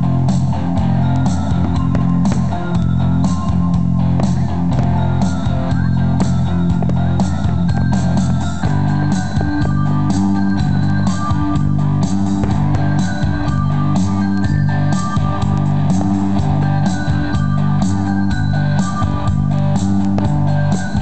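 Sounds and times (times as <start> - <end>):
music with guitars and bass: 0.0 - 21.0.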